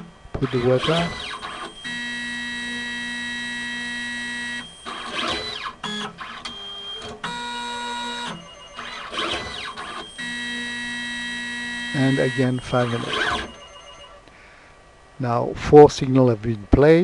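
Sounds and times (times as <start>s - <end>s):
robot motors whining: 0.3s - 14.3s.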